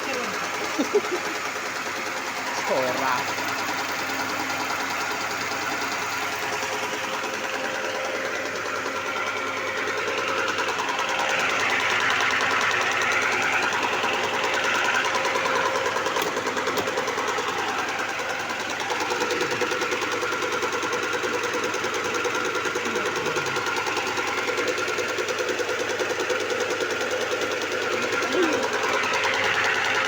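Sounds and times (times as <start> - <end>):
machine running with mechanical pulsing: 0.0 - 30.0.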